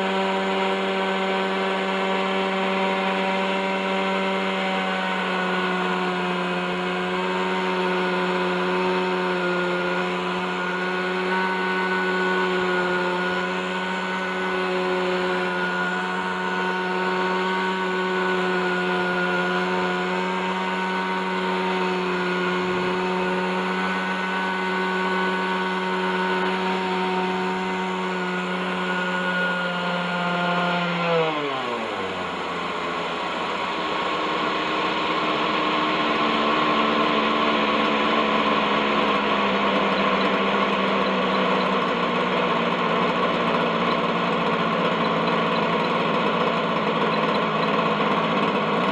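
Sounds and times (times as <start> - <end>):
model helicopter engine running: 0.0 - 48.9.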